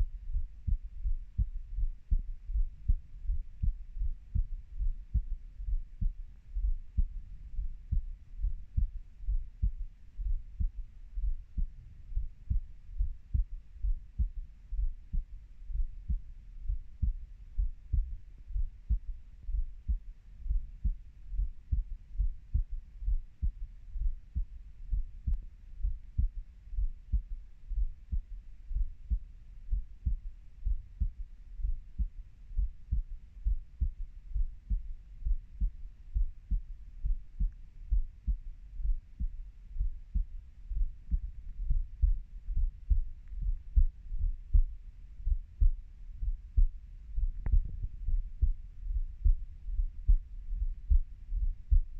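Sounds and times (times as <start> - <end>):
heartbeat thumps: 0.0 - 51.9.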